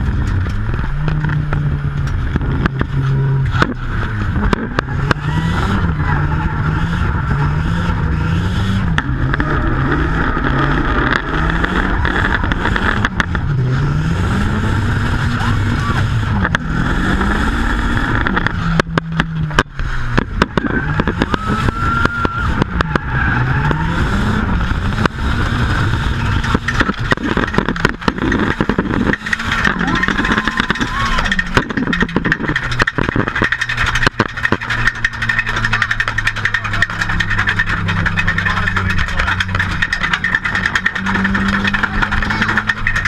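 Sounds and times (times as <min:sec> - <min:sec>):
car engine revving: 0:00.0 - 0:43.0
sharp clicks and knocks: 0:00.0 - 0:43.0.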